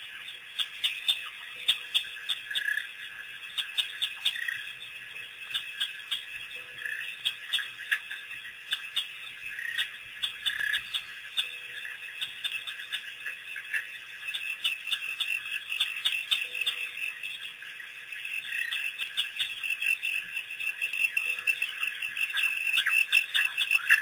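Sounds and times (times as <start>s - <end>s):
chorus of frogs chirping: 0.0s - 24.0s.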